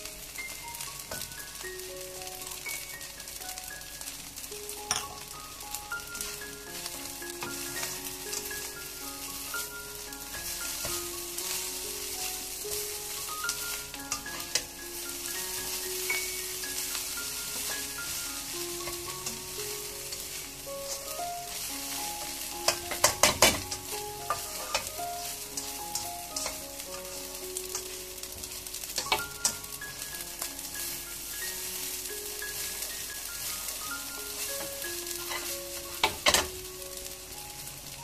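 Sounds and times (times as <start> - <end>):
rice sizzling in a wok: 0.0 - 38.0.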